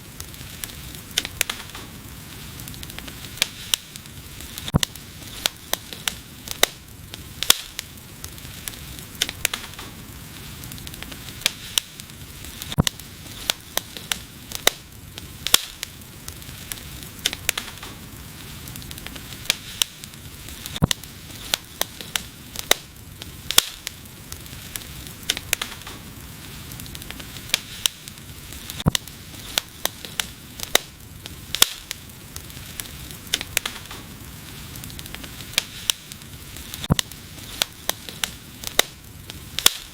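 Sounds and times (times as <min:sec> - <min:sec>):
steady hiss: 0:00.0 - 0:39.9
wood fire crackling: 0:00.0 - 0:39.9.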